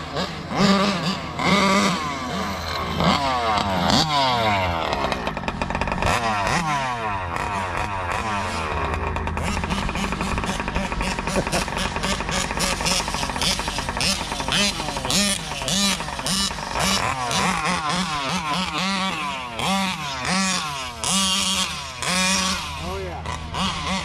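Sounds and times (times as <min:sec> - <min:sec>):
two-stroke engines revving: 0:00.0 - 0:24.0.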